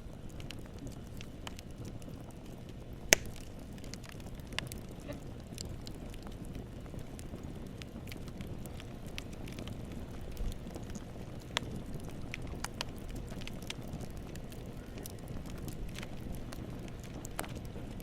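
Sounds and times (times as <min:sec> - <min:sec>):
burning wood crackling and popping: 0:00.0 - 0:18.0
campfire flames rumbling: 0:00.0 - 0:18.0.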